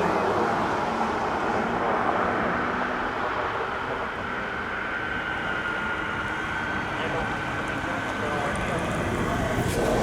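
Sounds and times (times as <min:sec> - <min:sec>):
jet engines rushing: 0:00.0 - 0:10.0.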